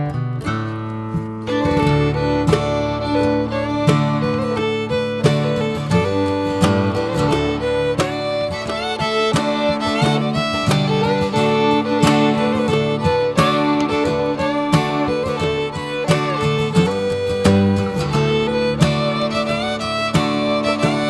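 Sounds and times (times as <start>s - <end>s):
fiddle: 0.0s - 21.0s
strummed acoustic guitar: 0.0s - 21.0s.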